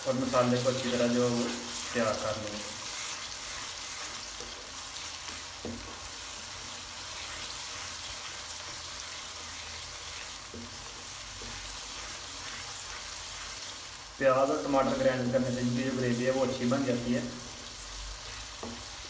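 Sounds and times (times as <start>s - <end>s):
masala sizzling in hot oil: 0.0s - 19.0s
wooden spatula stirring: 0.0s - 19.0s.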